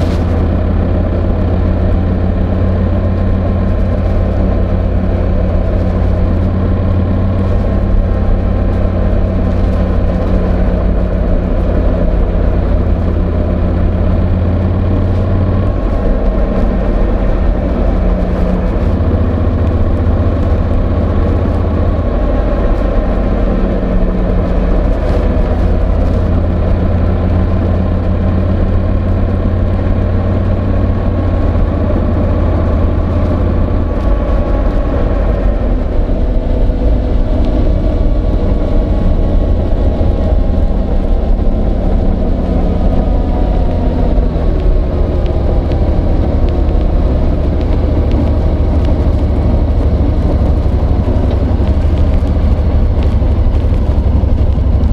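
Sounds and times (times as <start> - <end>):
motorcycle engine running: 0.0 - 54.9
wind: 0.0 - 54.9.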